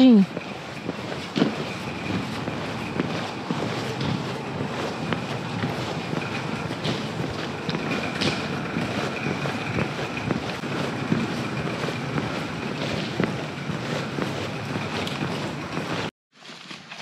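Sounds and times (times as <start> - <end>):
footsteps crunching on ballast: 0.0 - 17.0.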